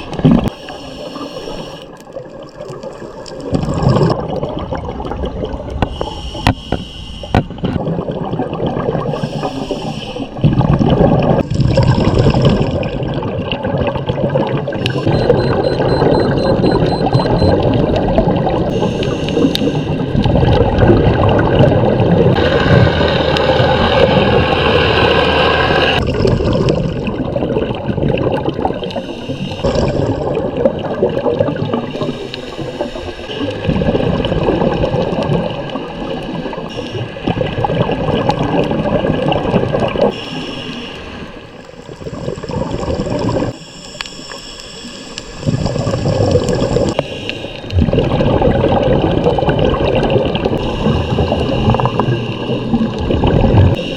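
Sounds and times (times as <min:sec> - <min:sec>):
underwater bubbles gurgling: 0:00.0 - 0:53.9.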